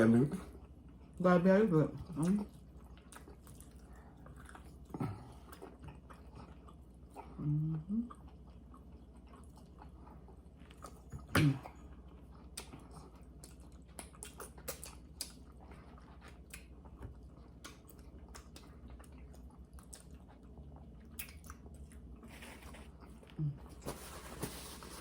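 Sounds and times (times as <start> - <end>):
people chewing: 2.0 - 25.0.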